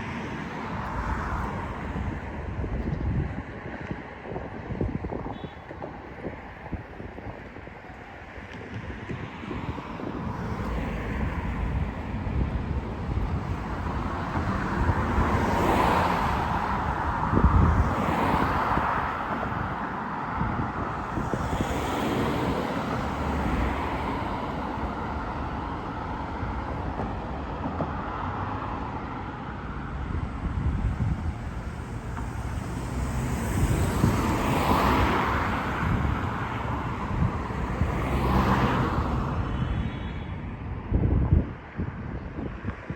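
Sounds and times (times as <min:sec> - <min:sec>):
cars passing by: 0:00.0 - 0:42.9
road traffic rumble: 0:00.0 - 0:42.9.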